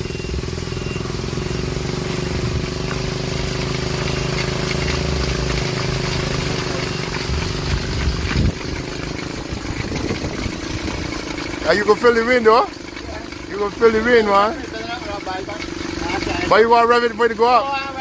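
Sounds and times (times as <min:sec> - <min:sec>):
helicopter engine running: 0:00.0 - 0:18.0.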